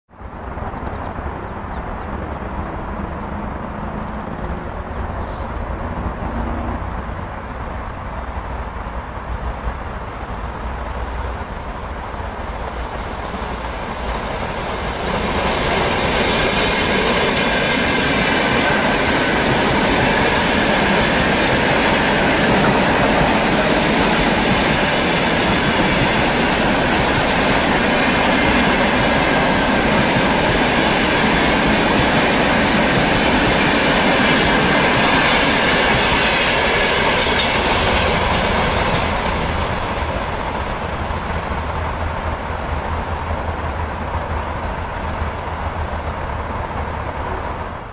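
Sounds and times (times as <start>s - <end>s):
electric train passing: 0.2s - 47.9s
wheel and rail noise: 0.2s - 47.9s.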